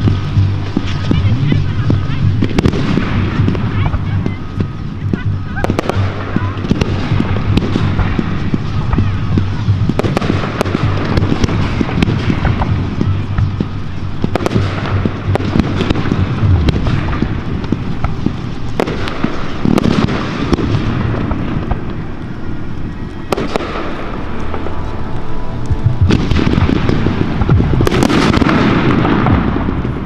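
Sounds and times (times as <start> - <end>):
crackle of burning stars: 0.0 - 30.0
firework shells bursting: 5.6 - 29.9.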